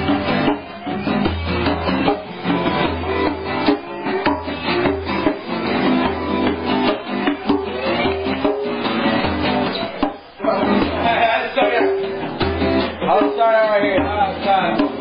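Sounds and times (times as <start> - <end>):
acoustic guitars strumming: 0.0 - 15.0.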